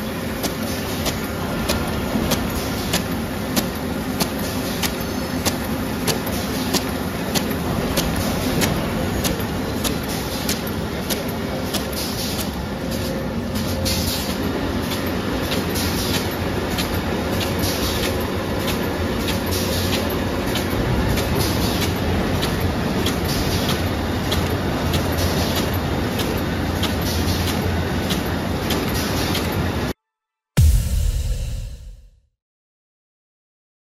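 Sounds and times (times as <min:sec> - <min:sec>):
machine humming: 0:00.0 - 0:28.5
sharp machine ticks: 0:00.4 - 0:29.6.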